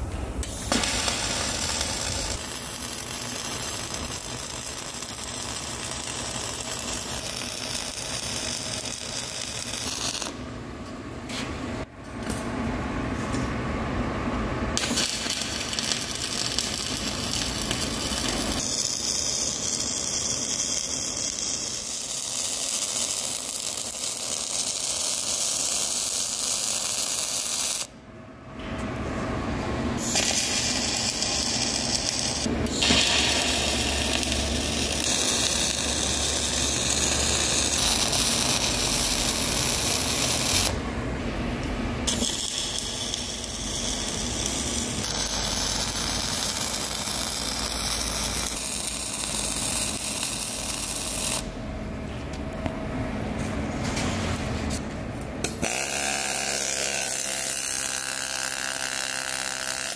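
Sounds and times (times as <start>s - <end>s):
welding arc sizzling crackle: 0.0s - 10.5s, 14.7s - 27.9s, 29.8s - 40.9s, 41.6s - 51.6s, 55.4s - 59.9s.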